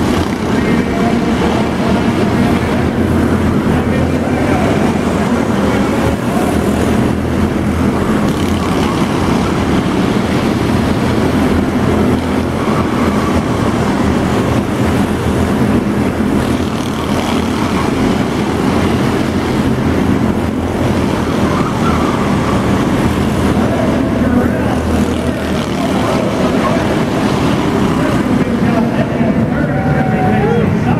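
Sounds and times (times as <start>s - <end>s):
race car engines running: 0.0s - 30.9s.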